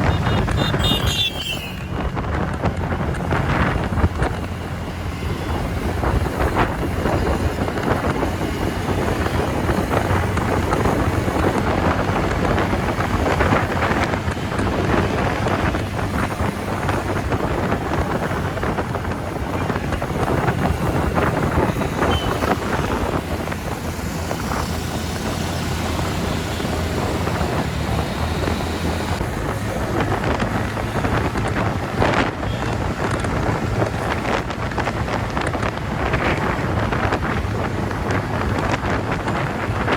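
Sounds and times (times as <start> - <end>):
scooter engine and tyre drone: 0.0 - 39.9
wind rushing over microphone: 0.0 - 39.9.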